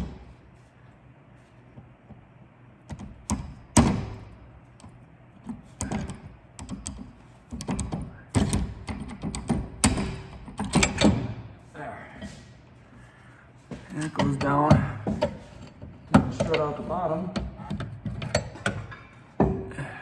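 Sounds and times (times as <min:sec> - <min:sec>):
tools and suspension parts clunking: 0:02.9 - 0:12.6, 0:13.6 - 0:20.0.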